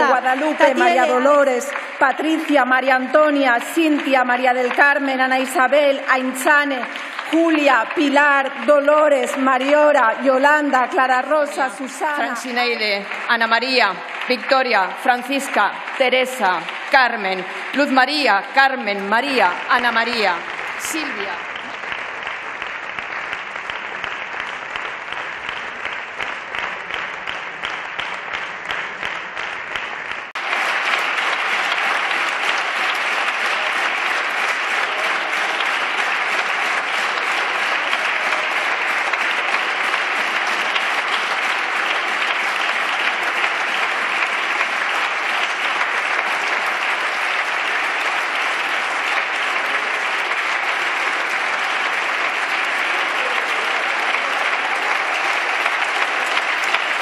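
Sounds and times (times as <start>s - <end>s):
crowd applause: 0.0s - 57.0s.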